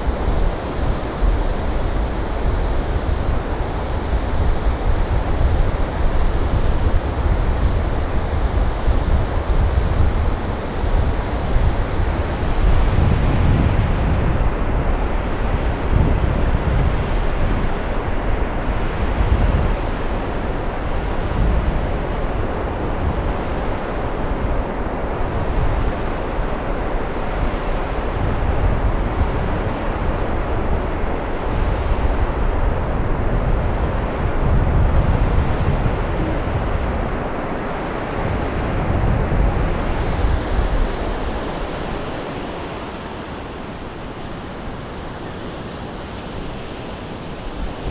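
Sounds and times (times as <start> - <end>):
ocean surf on a beach: 0.0 - 47.9
wind buffeting microphone: 0.0 - 47.9.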